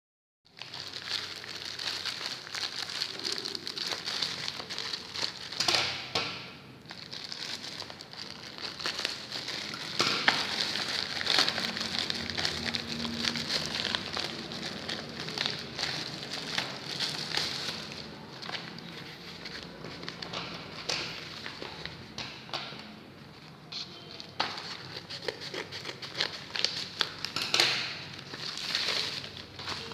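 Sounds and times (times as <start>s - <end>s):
plastic packaging crinkling: 0.5s - 29.9s.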